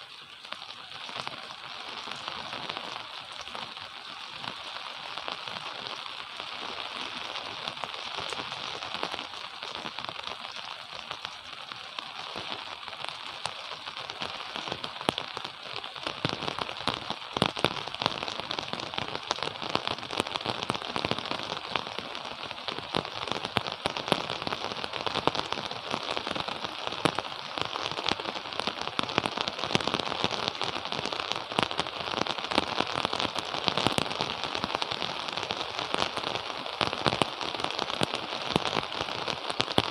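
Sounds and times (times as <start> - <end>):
gentle rain falling: 0.0 - 39.9
raindrop impacts crackling: 0.0 - 39.9.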